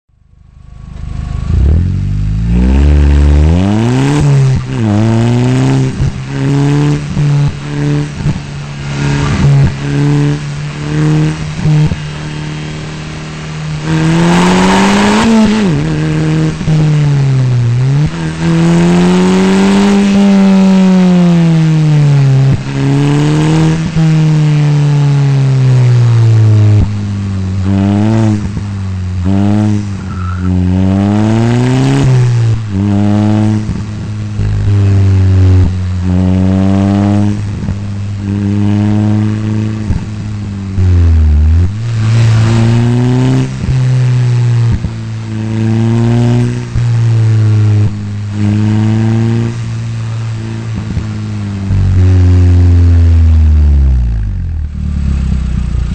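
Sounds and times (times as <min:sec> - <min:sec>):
sports car engine revving: 0:00.1 - 0:55.9
rush of tyre or wind noise: 0:00.7 - 0:55.9.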